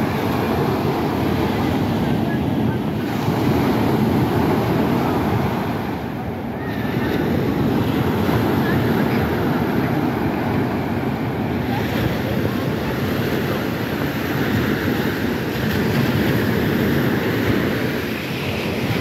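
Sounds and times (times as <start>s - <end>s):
waves washing onto beach: 0.0s - 19.0s
wind buffeting microphone: 0.0s - 19.0s.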